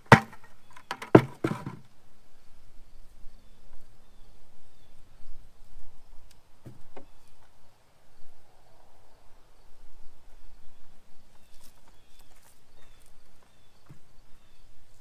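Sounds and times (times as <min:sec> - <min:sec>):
faint insect chirps: 0:01.9 - 0:15.0.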